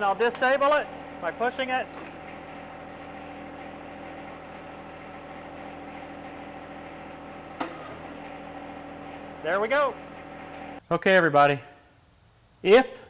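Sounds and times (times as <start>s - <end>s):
tractor diesel engine running: 0.0s - 10.8s.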